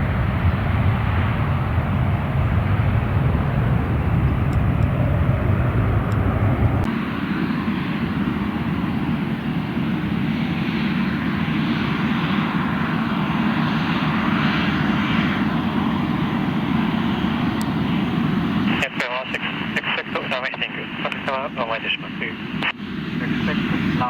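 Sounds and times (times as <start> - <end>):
airliner engines roaring: 0.0 - 24.0.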